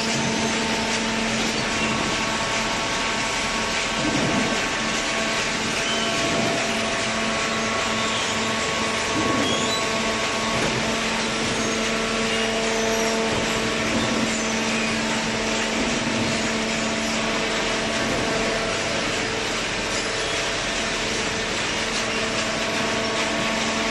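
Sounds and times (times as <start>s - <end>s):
hydraulic baler humming: 0.0s - 23.9s.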